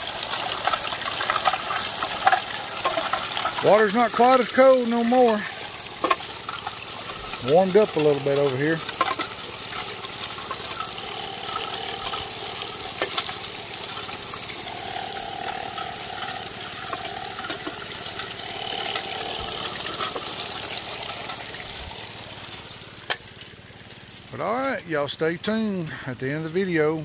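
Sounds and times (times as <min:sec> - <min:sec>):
water rushing and splashing: 0:00.0 - 0:24.5
gravel rattling in turning drum: 0:00.0 - 0:24.8
faint steady hum: 0:00.0 - 0:27.0.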